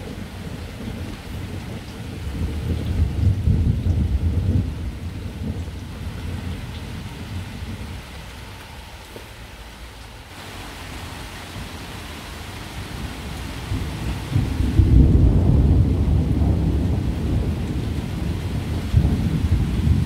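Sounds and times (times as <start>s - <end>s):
thunder rumbling: 0.0s - 9.8s, 10.5s - 20.0s
steady rain: 0.0s - 20.0s.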